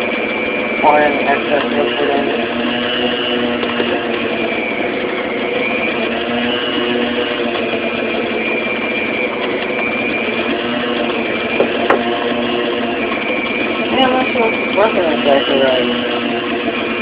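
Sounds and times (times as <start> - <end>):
stand mixer kneading dough: 0.0 - 17.0.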